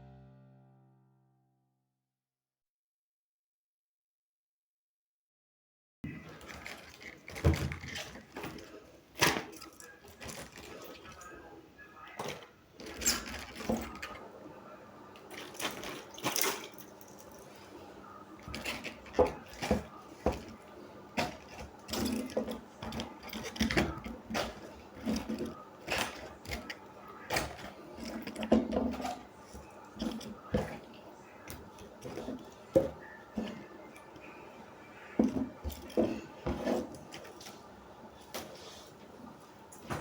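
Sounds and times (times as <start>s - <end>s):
objects being handled: 6.1s - 11.4s, 12.1s - 14.3s, 15.2s - 40.0s.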